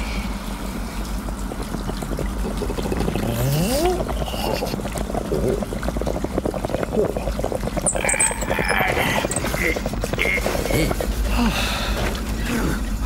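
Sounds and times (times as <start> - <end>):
cartoon water running into bath: 0.0 - 12.4.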